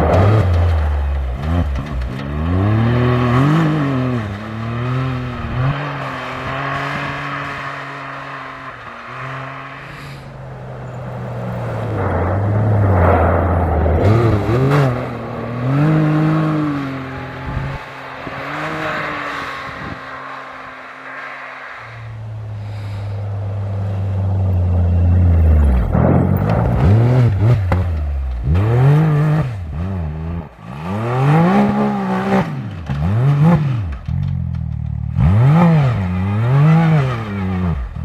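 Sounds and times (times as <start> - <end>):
racing engine revving hard: 1.4 - 10.3, 11.8 - 22.2, 25.5 - 33.9, 35.2 - 37.9.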